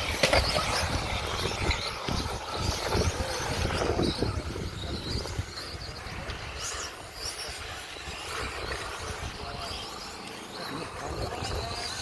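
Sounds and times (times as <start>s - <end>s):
rc car motors whining: 0.0s - 12.0s
wind on microphone: 0.0s - 12.0s.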